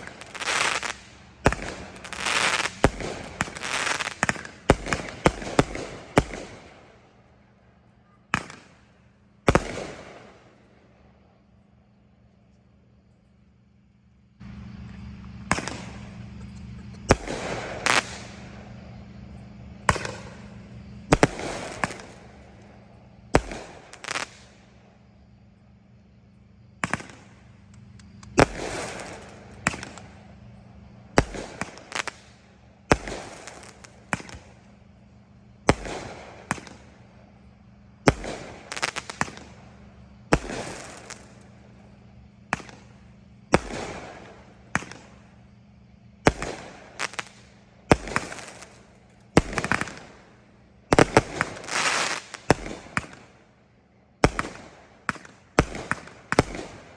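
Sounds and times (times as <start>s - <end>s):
fireworks banging: 0.0s - 7.4s, 8.3s - 10.8s, 14.3s - 25.4s, 26.7s - 53.4s, 54.2s - 56.9s
firework crackle: 0.0s - 7.7s, 8.3s - 11.3s, 14.4s - 25.1s, 26.8s - 53.5s, 54.2s - 56.9s.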